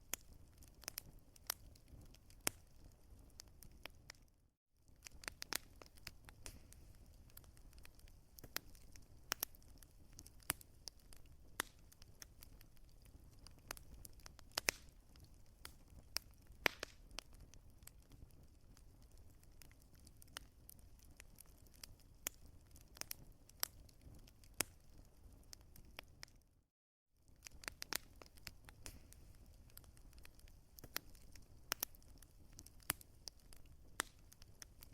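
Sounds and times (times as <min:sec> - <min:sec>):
low rumble of flames: 0:00.0 - 0:04.3, 0:04.9 - 0:26.4, 0:27.2 - 0:34.9
wood fire crackling: 0:00.0 - 0:26.5, 0:27.2 - 0:34.9.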